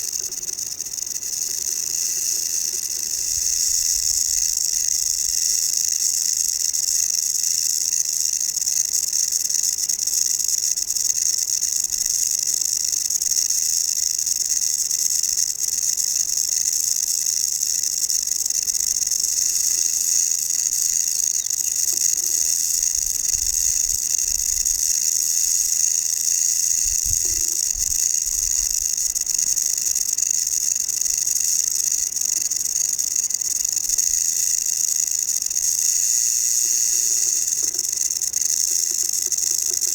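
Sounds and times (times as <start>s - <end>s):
rattlesnake tail rattle buzzing: 0.0s - 39.9s.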